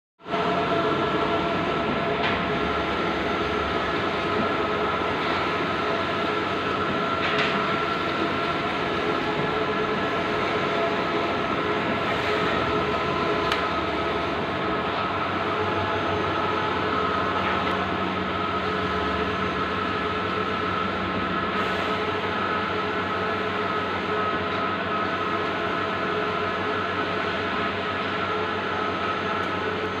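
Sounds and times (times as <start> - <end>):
constant hum: 0.3 - 30.0
printer mechanical whir: 0.3 - 30.0.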